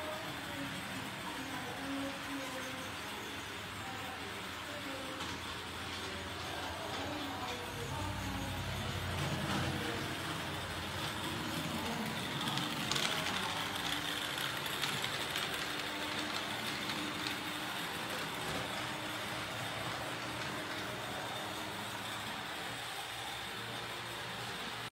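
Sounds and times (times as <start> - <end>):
toy train running on track: 0.0 - 24.9.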